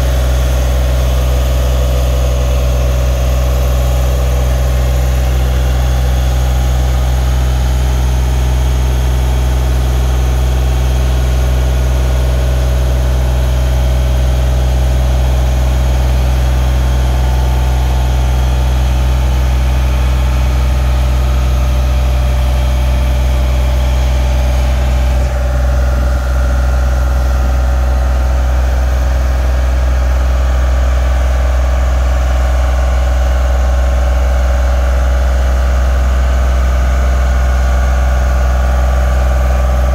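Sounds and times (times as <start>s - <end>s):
engine running with hydraulic hum: 0.0s - 39.9s.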